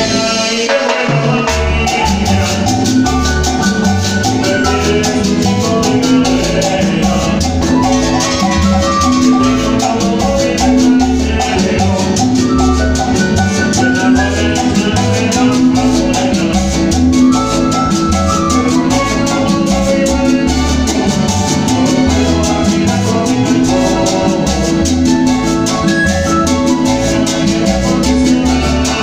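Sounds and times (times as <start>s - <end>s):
fast shaken percussion: 0.0s - 29.0s
latin dance band playing: 0.0s - 29.0s.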